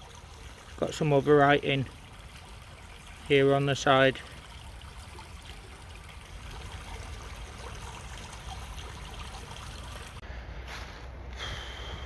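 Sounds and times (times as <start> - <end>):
brook water trickling: 0.0 - 10.3.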